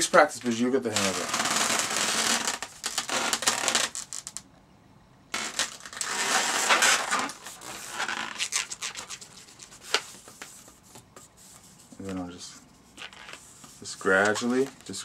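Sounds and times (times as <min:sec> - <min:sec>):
balloon rubbing and creaking: 0:01.0 - 0:04.4, 0:05.3 - 0:11.9, 0:12.8 - 0:14.9.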